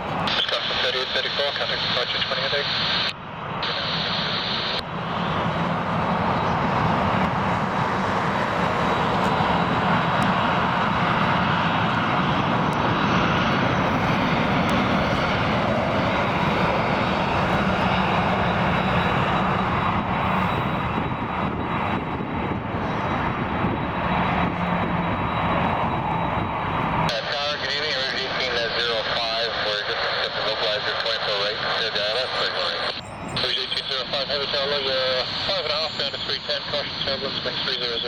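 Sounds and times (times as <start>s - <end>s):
high whine: 0.0s - 7.4s, 8.6s - 38.0s
jet engines roaring: 0.0s - 38.0s.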